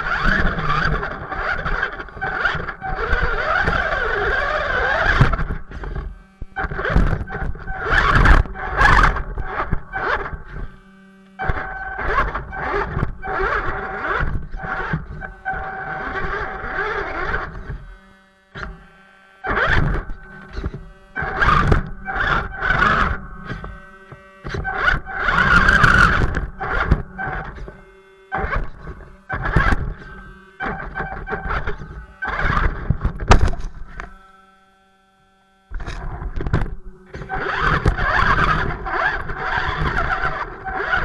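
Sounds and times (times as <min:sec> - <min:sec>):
electric motor and gear whine: 0:00.0 - 0:41.0.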